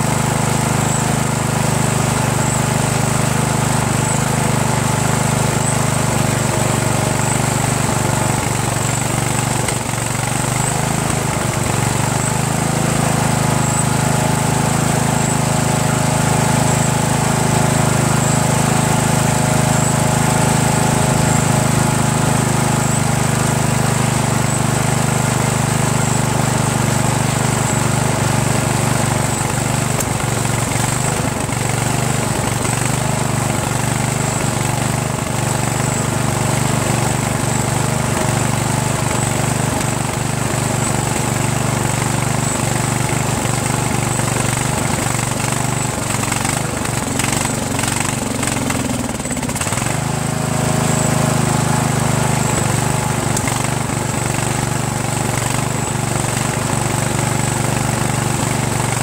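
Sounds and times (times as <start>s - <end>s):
lawn tractor engine idling: 0.0s - 59.0s.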